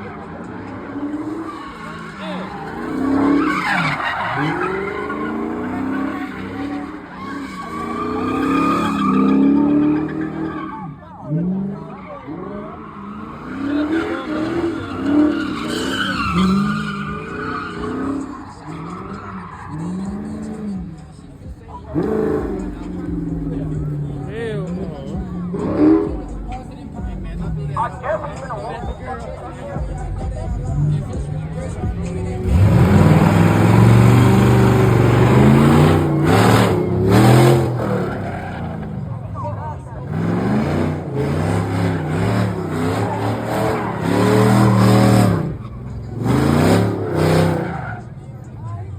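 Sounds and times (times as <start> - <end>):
car engine revving: 0.0 - 48.9
tires squealing: 0.0 - 48.9.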